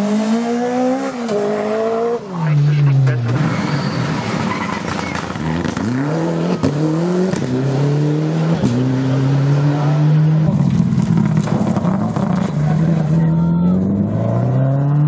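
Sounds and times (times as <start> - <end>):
car engine accelerating through gears: 0.0 - 15.0.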